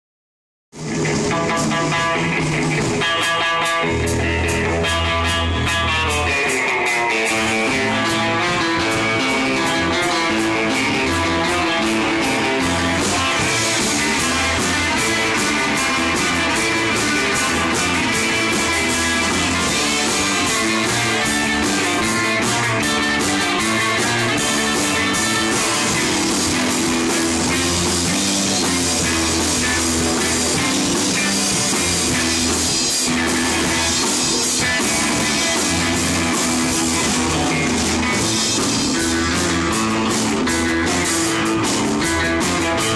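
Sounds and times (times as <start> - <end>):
drum kit: 0.7 - 42.9
electric guitars: 0.8 - 42.9.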